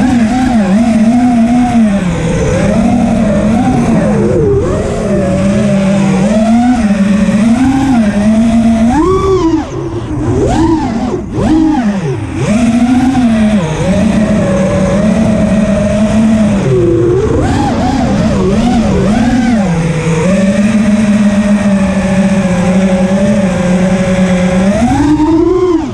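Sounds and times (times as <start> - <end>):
drone motors and propellers whining: 0.0 - 25.9.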